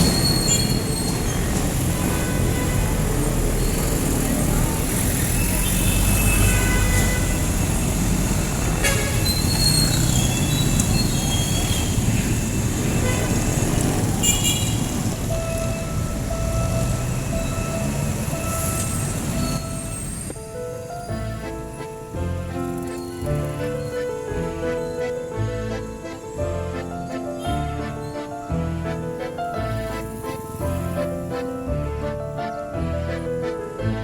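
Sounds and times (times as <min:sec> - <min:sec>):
vehicle engines rumbling: 0:00.0 - 0:34.0.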